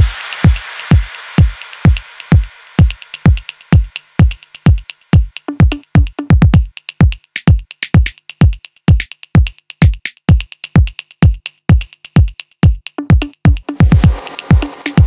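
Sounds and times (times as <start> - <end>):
electronic dance music: 0.0 - 9.1, 9.8 - 15.0
crisp hi-hat ticks: 0.0 - 15.0
deep kick drum: 0.0 - 15.0.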